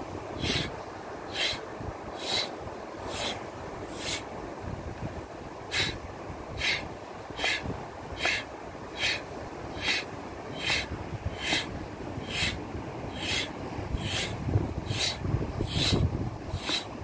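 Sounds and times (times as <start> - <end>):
wind and surf rumble: 0.0 - 17.0
sharp rhythmic breaths: 0.4 - 4.3, 5.7 - 6.0, 6.6 - 17.0.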